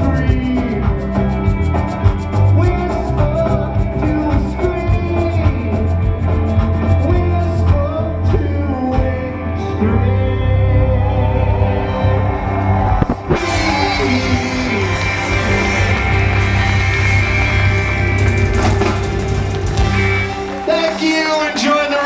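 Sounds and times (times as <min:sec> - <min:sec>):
heavy bass line: 0:00.0 - 0:21.4
drums: 0:00.0 - 0:22.0
electric guitar: 0:00.0 - 0:22.0.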